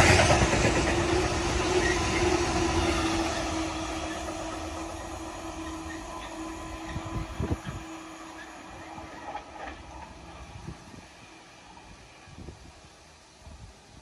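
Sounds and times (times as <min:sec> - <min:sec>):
train wagons rolling on rails: 0:00.0 - 0:13.6.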